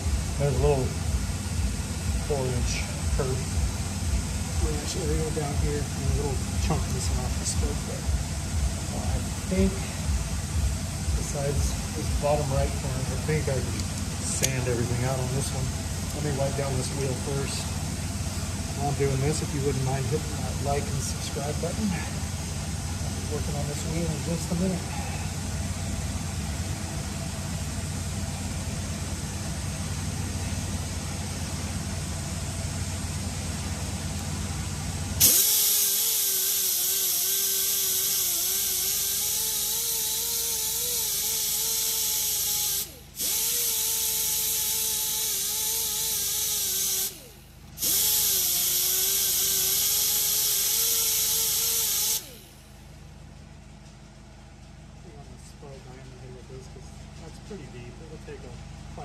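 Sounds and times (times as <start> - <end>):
air tool hissing and whining: 0.0 - 53.0
steady low hum: 0.0 - 59.0.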